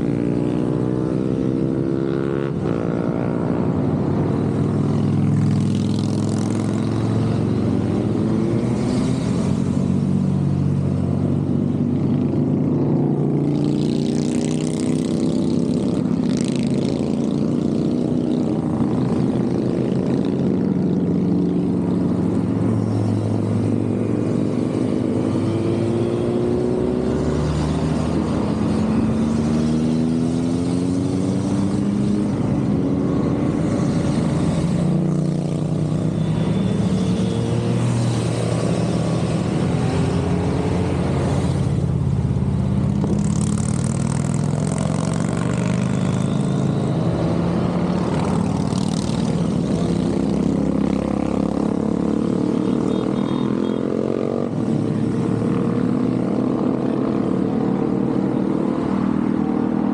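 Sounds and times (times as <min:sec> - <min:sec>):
motorcycles riding past: 0:00.0 - 0:59.9.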